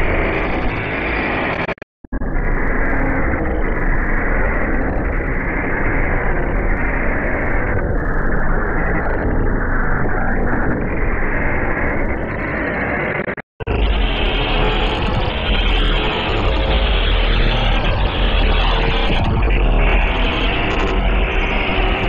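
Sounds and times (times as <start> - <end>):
harsh distorted noise: 0.0 - 22.0.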